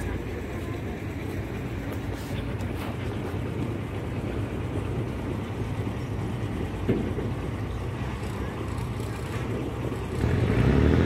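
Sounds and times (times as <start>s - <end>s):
ferry engine low drone: 0.0s - 11.0s.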